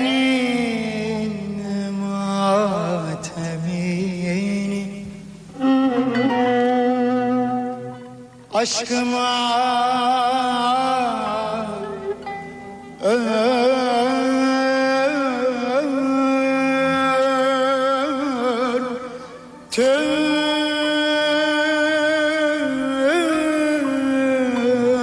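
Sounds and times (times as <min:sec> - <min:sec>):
soft instrumental accompaniment: 0:00.0 - 0:25.0.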